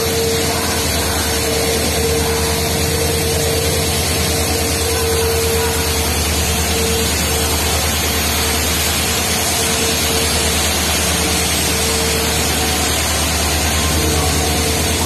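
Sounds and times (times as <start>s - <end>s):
diesel locomotive passing: 0.0s - 15.0s
engine whine: 0.0s - 15.0s.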